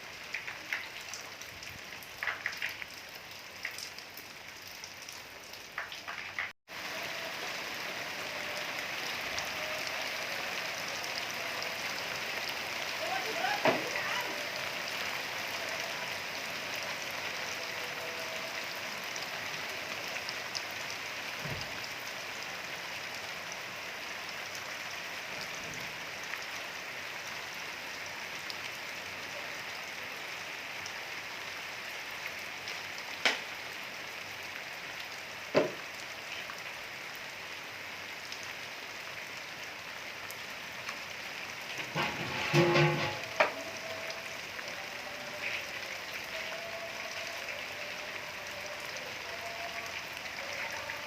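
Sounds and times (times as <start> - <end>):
steady rain: 0.0 - 51.0.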